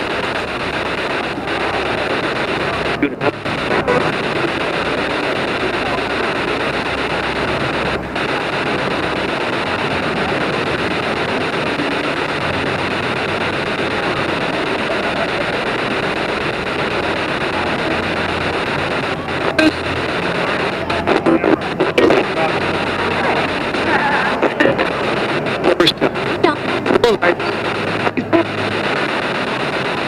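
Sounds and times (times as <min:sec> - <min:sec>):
radio static rush: 0:00.0 - 0:30.0.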